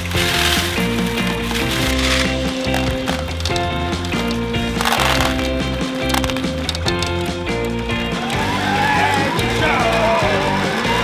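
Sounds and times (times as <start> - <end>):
synth music with pulsing bass: 0.0 - 11.0.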